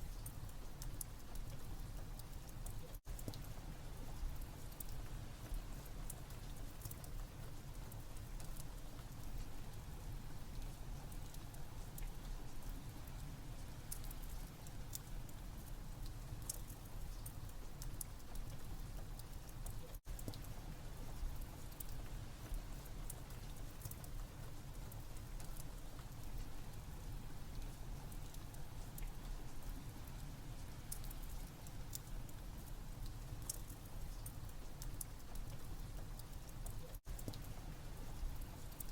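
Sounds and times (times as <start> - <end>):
rain: 0.0 - 38.9.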